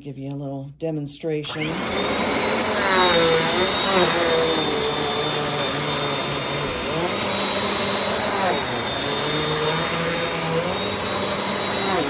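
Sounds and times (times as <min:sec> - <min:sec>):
vacuum cleaner running: 0:01.5 - 0:12.0.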